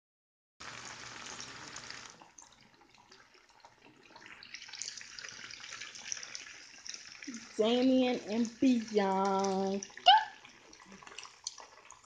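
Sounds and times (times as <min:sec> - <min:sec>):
tap water running into a sink: 0:00.6 - 0:12.0.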